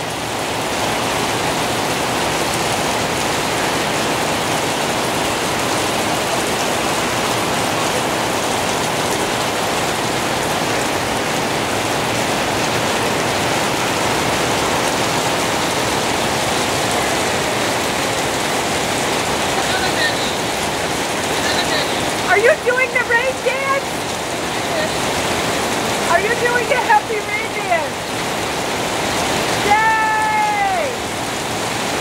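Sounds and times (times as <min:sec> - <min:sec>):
heavy rain on plants and paving: 0:00.0 - 0:32.0.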